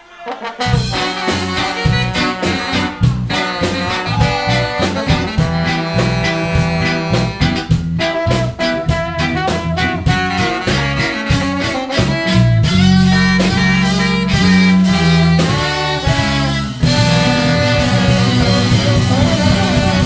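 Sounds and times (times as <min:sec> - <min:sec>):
guitar: 0:00.0 - 0:20.0
drums: 0:00.4 - 0:20.0
bass: 0:00.6 - 0:20.0.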